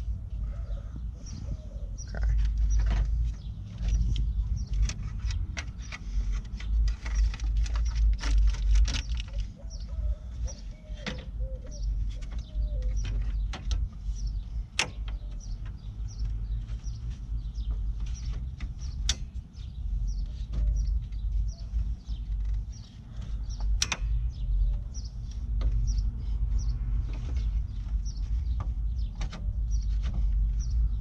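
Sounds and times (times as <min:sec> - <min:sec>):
faint birds chirping: 0:00.0 - 0:31.0
steady low rumble: 0:00.0 - 0:31.0.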